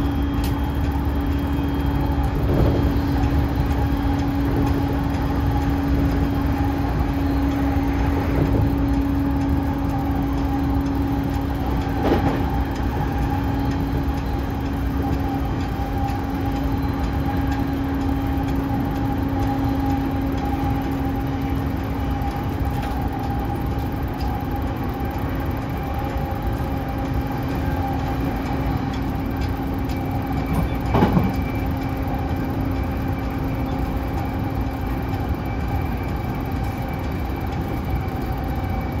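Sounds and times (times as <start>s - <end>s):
train rumble: 0.0s - 39.0s.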